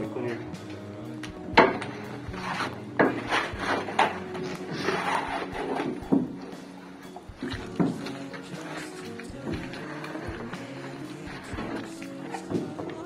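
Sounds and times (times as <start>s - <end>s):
trowel scraping a bucket: 1.6s - 13.0s.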